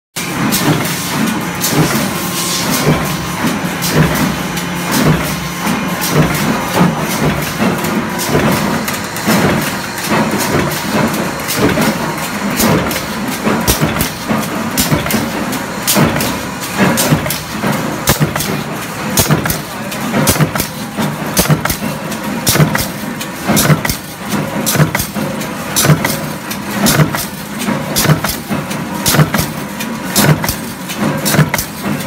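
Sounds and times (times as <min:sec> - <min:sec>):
machine hum: 0:00.2 - 0:32.0.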